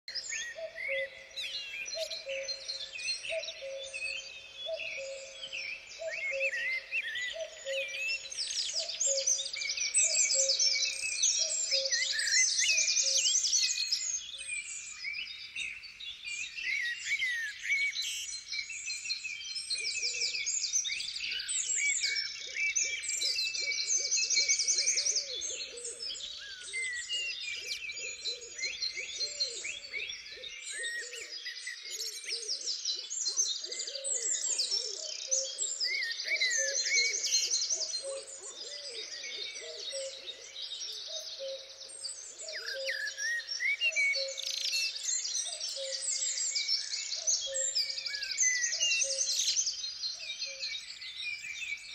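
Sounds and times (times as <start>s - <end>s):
songbird chorus: 0.0s - 51.9s.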